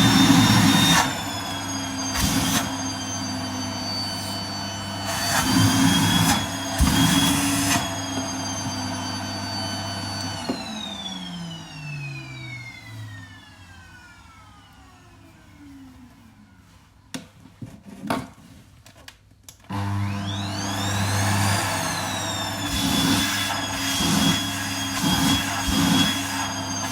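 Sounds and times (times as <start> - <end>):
vacuum cleaner running: 0.0 - 15.8, 19.7 - 26.9.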